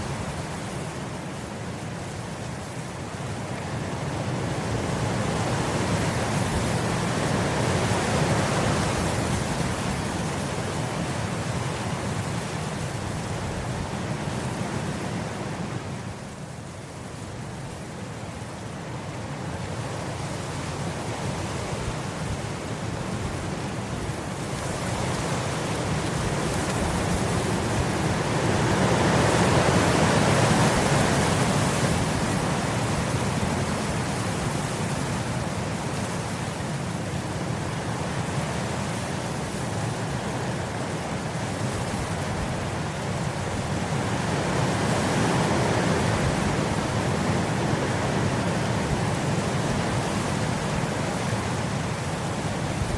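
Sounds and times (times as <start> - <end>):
wind blowing through grass: 0.0 - 52.9.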